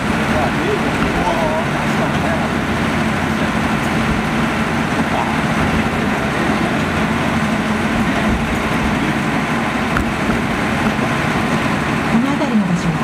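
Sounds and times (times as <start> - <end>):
diesel locomotive engine hum: 0.0 - 13.0
wheels rumbling on track: 0.0 - 13.0.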